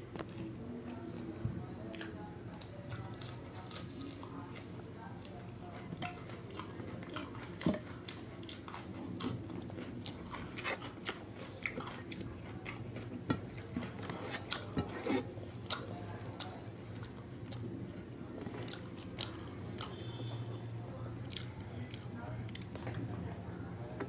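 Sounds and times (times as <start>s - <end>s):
chewing: 1.8s - 23.0s.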